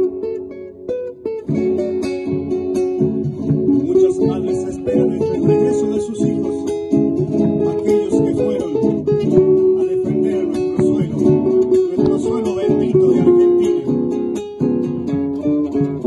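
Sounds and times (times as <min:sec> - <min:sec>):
acoustic guitars strumming: 0:00.0 - 0:16.0
bass drum beat: 0:01.5 - 0:16.0.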